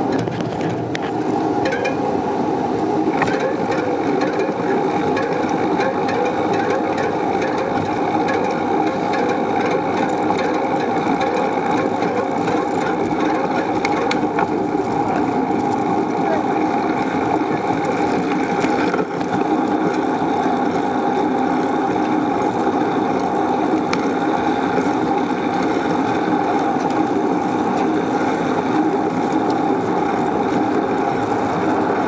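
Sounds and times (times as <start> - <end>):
bike rattles and clicks: 0.0 - 2.1, 3.1 - 32.0
bicycle tyre road rumble: 0.0 - 32.0.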